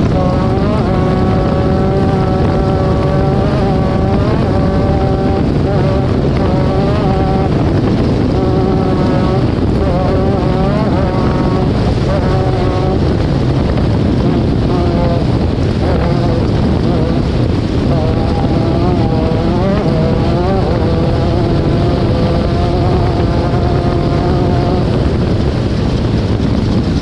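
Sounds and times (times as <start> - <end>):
race vehicle engine revving: 0.0 - 27.0
wind noise: 0.0 - 27.0.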